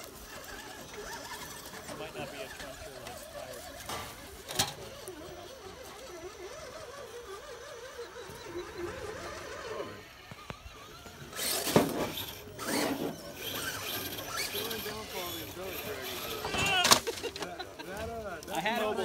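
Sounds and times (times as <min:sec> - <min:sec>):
electric motor whining: 0:00.0 - 0:19.0
loud rough noises: 0:00.0 - 0:19.0.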